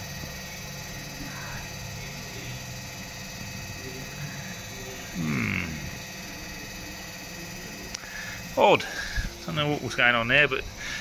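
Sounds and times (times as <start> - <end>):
short buzz falling in pitch: 0.0 - 11.0
small cooling fans humming: 0.0 - 11.0.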